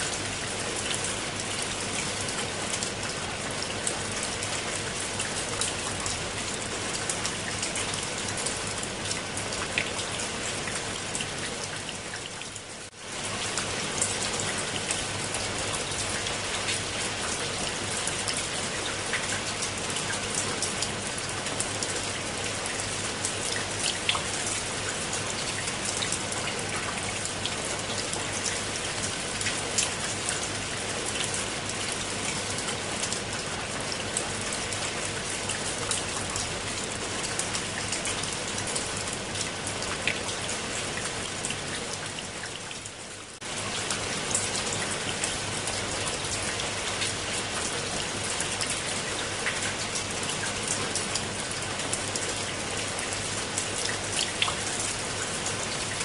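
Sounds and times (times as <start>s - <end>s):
steady rain on leaves and stone: 0.0s - 56.0s.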